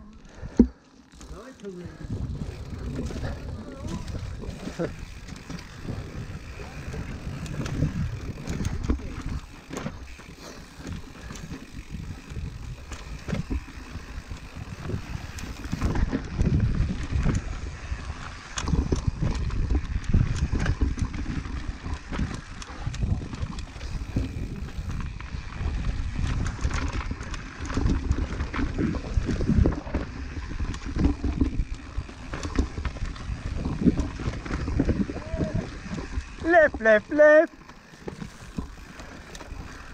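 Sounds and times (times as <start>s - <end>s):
bike tyre rumble on dirt: 0.0s - 39.9s
bike knocks and rattles: 0.5s - 39.9s.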